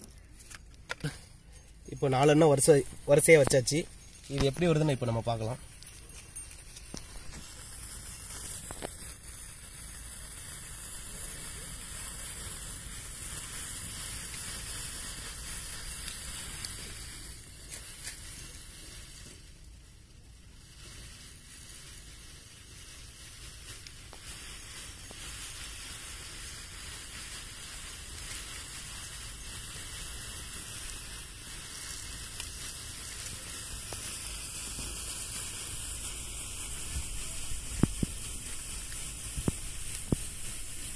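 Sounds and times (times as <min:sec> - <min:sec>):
fireworks sizzling hiss: 0:00.0 - 0:40.9.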